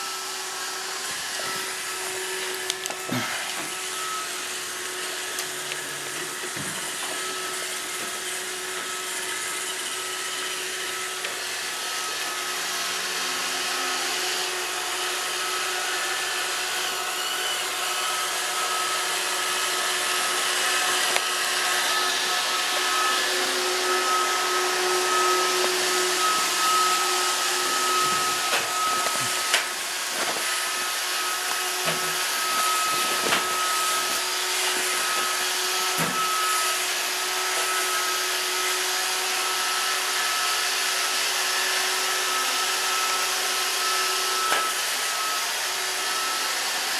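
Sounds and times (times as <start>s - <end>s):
robot vacuum whirring: 0.0s - 46.9s.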